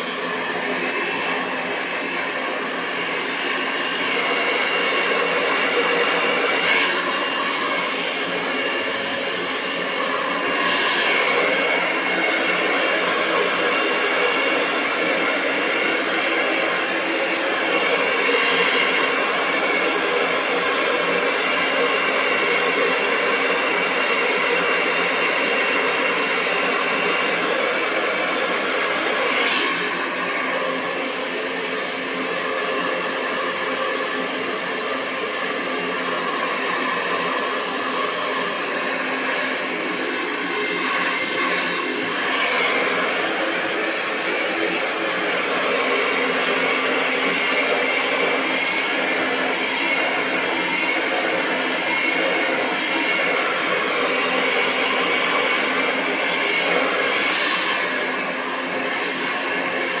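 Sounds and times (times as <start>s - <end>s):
hair dryer blowing: 0.0s - 60.0s.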